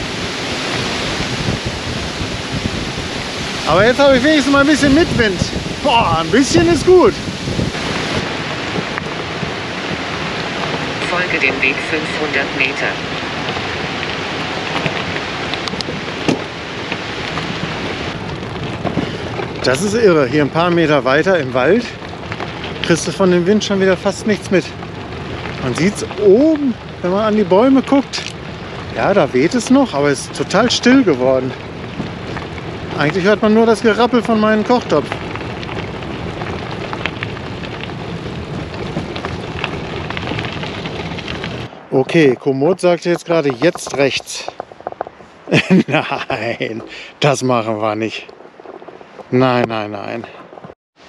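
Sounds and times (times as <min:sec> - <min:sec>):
bicycle rolling: 0:00.0 - 0:42.3, 0:43.4 - 0:46.7
wind rushing: 0:00.0 - 0:51.0.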